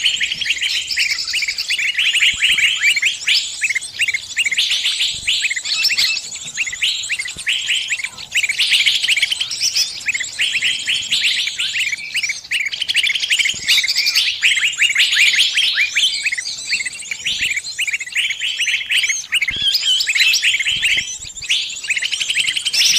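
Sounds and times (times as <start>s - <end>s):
small birds chirping and twittering: 0.0s - 22.9s.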